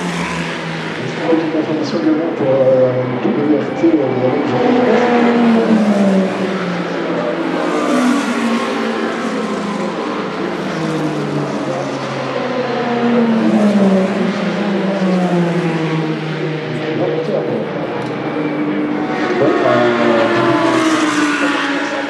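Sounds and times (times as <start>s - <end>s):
race cars passing at speed: 0.0s - 22.0s.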